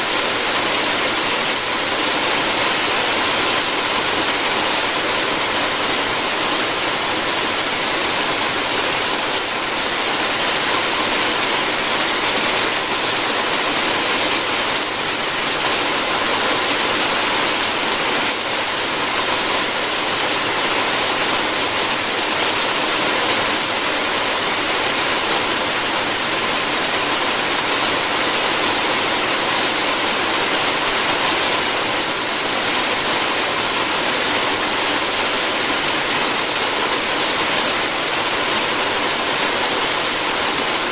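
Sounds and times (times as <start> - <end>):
rain on a roof: 0.0 - 40.9.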